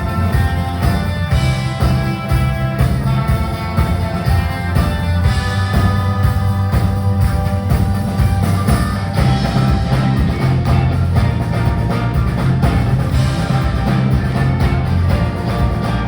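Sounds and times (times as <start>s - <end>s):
bass line: 0.0s - 16.0s
live rock band playing: 0.0s - 16.0s.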